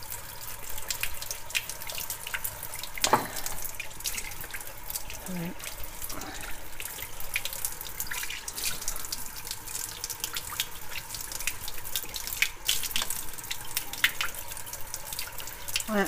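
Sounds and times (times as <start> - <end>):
sharp water ticks: 0.0 - 16.0
tap water splashing into sink: 0.8 - 15.9.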